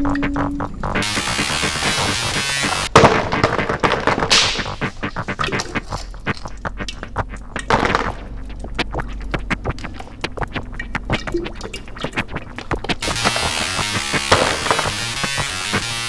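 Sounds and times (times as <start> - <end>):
ambient electronic music: 0.0 - 3.0, 4.4 - 16.0.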